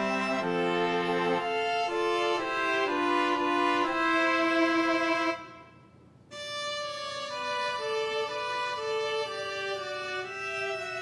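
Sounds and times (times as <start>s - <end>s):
violin melody: 0.0s - 11.0s.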